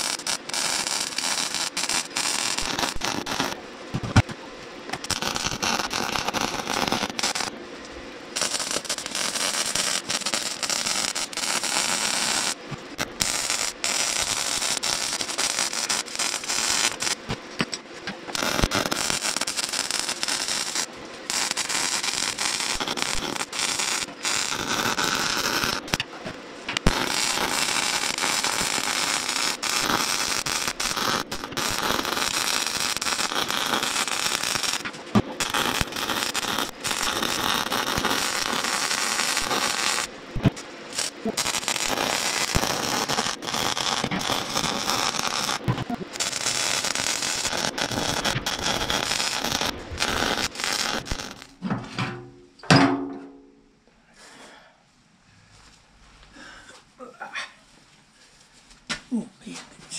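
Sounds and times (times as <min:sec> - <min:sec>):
arc welding crackling hiss: 0:00.0 - 0:51.6.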